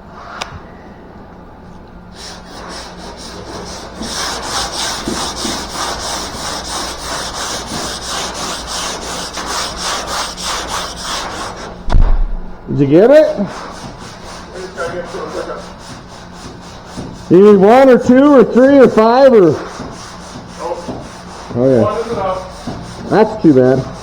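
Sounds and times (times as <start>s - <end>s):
sandpaper scraping on metal: 2.2s - 11.8s, 13.2s - 24.0s.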